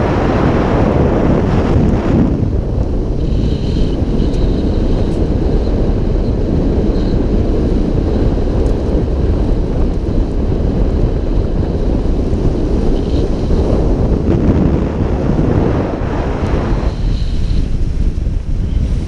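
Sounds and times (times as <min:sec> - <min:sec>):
heavy wind rumble on microphone: 0:00.0 - 0:19.0
vehicle driving on dirt road: 0:00.0 - 0:19.0.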